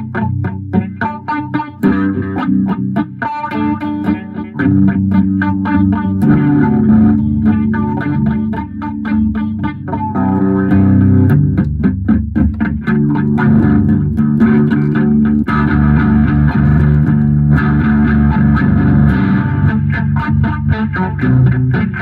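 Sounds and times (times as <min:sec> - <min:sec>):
bass line: 0:00.0 - 0:22.0
plucked guitar: 0:00.0 - 0:22.0.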